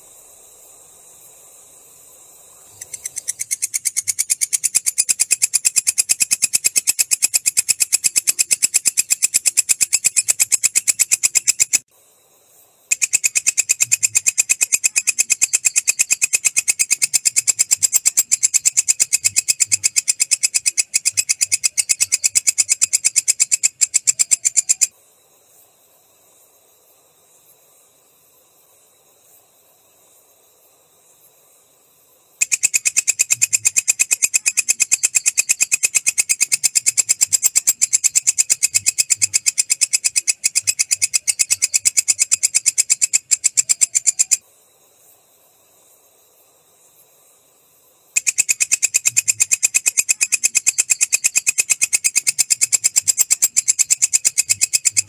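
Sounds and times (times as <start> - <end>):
katydid calling with shrill ticks: 0.0 - 11.9, 12.9 - 24.9, 32.3 - 44.4, 46.2 - 55.0.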